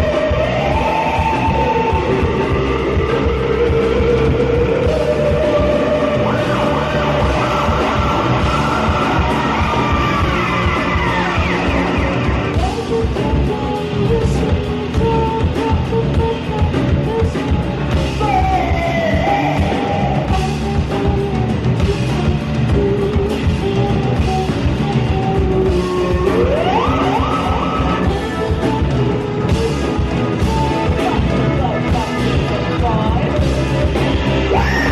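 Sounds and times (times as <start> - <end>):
live band playing amplified music: 0.0 - 34.9.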